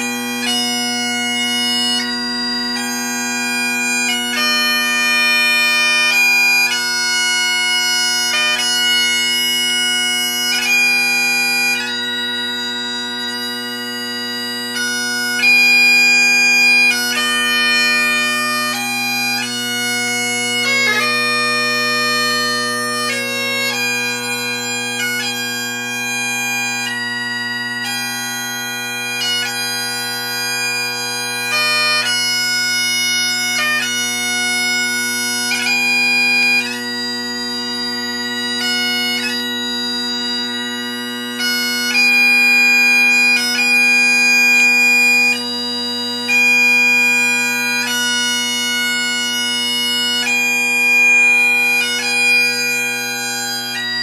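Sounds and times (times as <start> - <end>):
bagpipe playing: 0.0 - 54.0.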